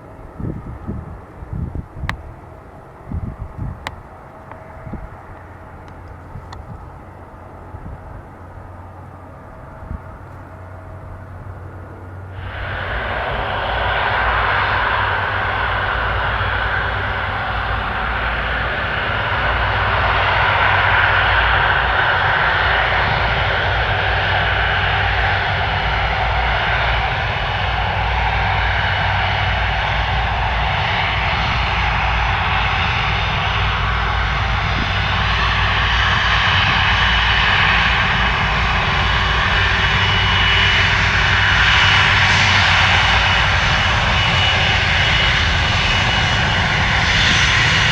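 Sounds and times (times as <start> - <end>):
high engine whine: 0.0 - 47.9
jet engines running: 0.0 - 47.9.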